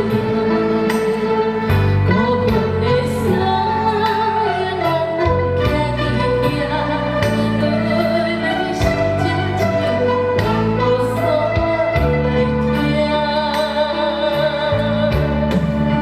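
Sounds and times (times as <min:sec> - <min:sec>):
person singing: 0:00.0 - 0:16.0
traditional string ensemble: 0:00.0 - 0:16.0.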